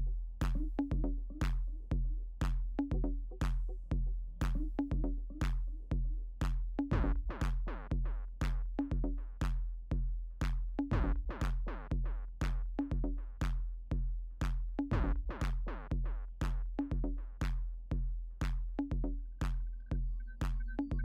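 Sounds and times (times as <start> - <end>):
drum-machine beat: 0.0 - 21.0.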